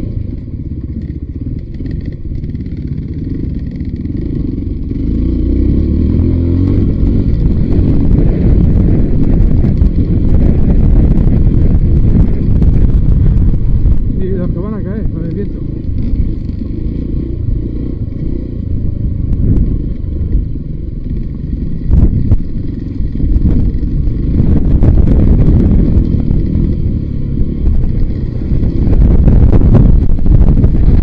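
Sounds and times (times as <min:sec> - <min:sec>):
motorcycle engine running: 0:00.0 - 0:31.0
wind on microphone: 0:00.0 - 0:31.0.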